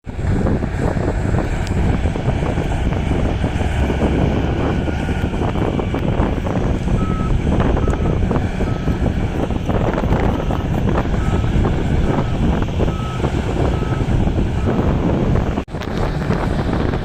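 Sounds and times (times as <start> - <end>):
heavy diesel engines under load: 0.0 - 17.0.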